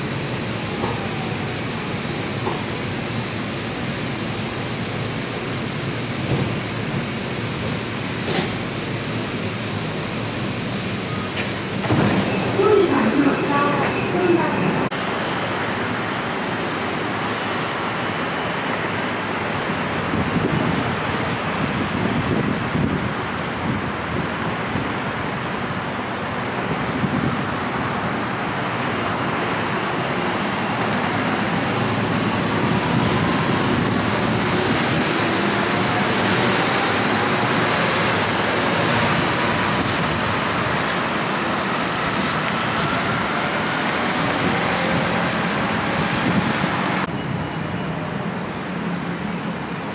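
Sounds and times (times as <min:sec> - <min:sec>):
road traffic rushing: 0:00.0 - 0:49.9.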